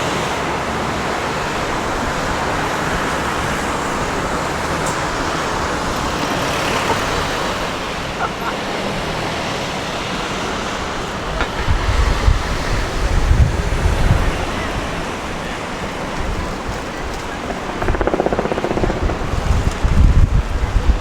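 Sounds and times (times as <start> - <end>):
city noise: 0.0 - 21.0
wind buffeting microphone: 1.0 - 21.0.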